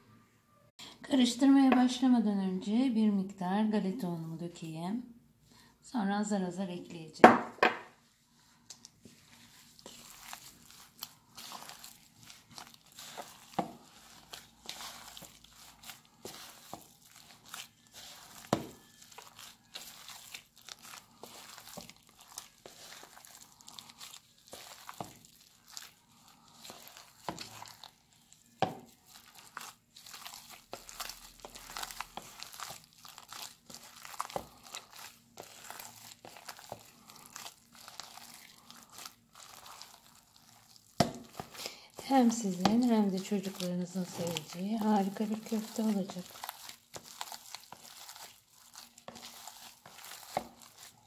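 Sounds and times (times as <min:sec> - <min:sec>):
gloved hand squishing mince: 0:07.7 - 0:51.0.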